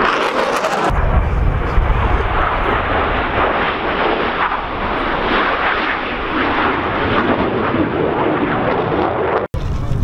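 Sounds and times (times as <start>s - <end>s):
jet roar: 0.0s - 10.0s.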